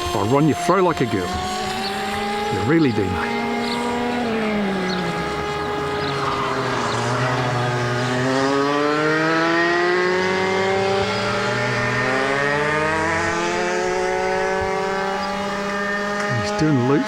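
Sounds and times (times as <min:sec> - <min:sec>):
model plane motor and propeller: 0:00.0 - 0:17.0
steady low hum: 0:00.0 - 0:17.0.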